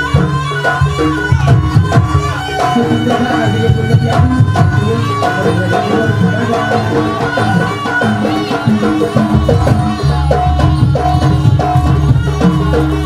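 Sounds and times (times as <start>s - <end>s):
percussion-led dance music: 0.0s - 13.0s.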